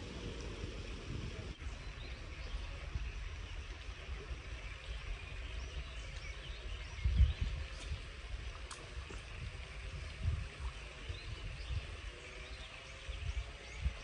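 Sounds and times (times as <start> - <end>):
birds chirping faintly: 0.0 - 14.0
wind rumble on microphone: 0.0 - 14.0.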